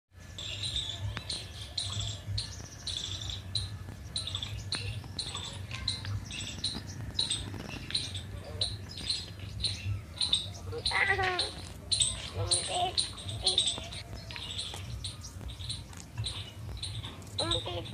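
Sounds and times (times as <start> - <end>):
small birds chirping: 0.1 - 17.9.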